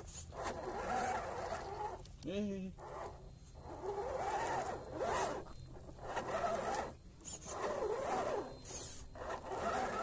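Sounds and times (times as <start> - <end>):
electric motor and gears whining: 0.0 - 10.0.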